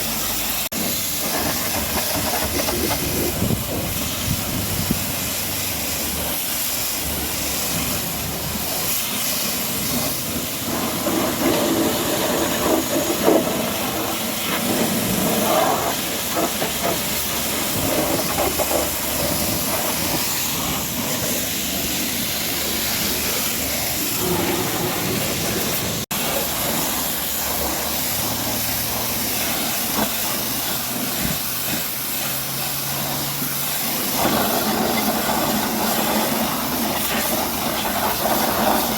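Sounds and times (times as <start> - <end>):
pressure washer spray hissing: 0.0 - 38.9.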